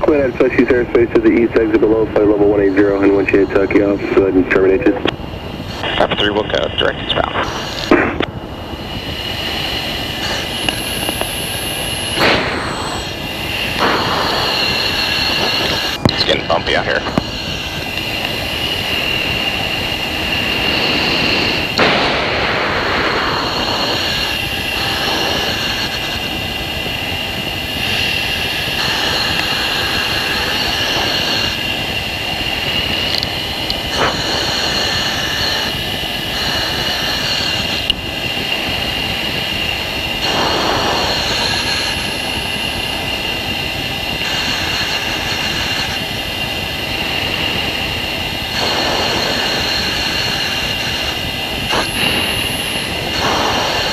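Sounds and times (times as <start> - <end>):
jet cockpit air rushing: 0.0 - 53.9.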